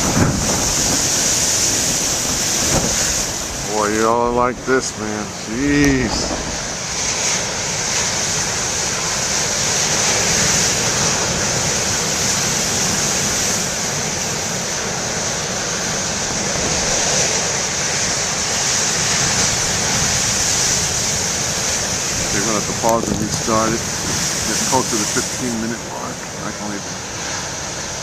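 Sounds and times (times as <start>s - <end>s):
ocean surf waves breaking: 0.0s - 28.0s
wind blowing on microphone: 0.0s - 28.0s.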